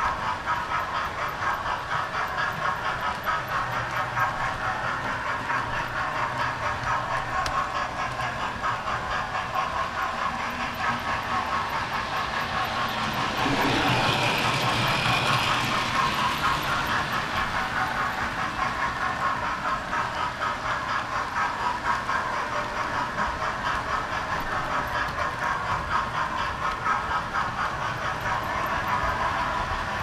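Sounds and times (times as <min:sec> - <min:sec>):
model train wheels clattering: 0:00.0 - 0:30.0.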